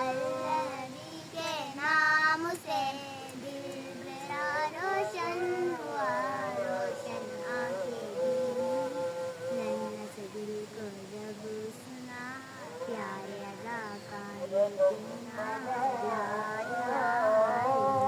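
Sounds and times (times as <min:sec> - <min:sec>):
girls chanting devotional song: 0:00.0 - 0:18.0.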